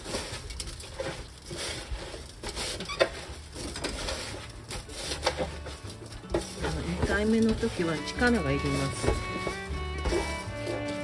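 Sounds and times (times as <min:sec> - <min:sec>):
leaves and salt rubbed in steel bowl: 0:00.0 - 0:11.0.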